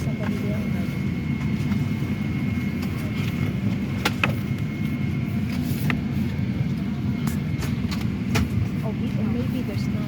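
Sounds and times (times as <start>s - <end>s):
airliner cabin low rumble: 0.0s - 10.0s.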